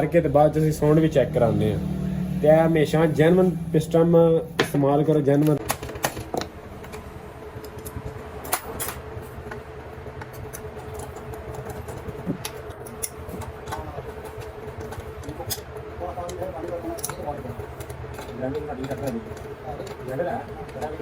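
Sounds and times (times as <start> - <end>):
workshop background hum: 0.0 - 21.0.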